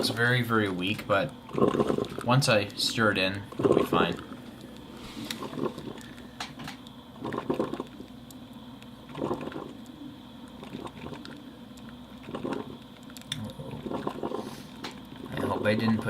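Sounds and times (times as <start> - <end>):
coffee maker gurgling and sputtering: 0.0 - 16.0.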